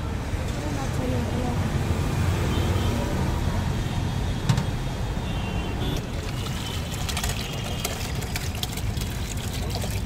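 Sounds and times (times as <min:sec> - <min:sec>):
rumble of road traffic: 0:00.0 - 0:10.0.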